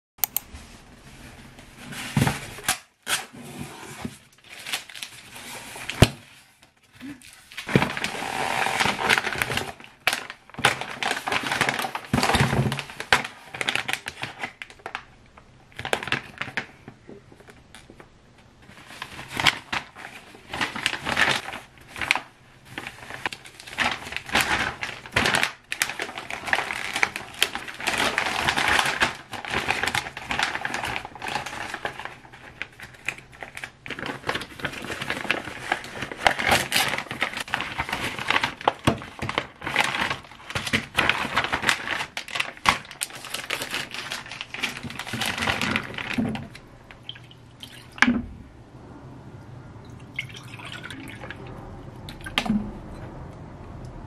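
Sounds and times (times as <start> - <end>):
plastic packaging crinkling: 4.1 - 18.0, 18.6 - 48.0.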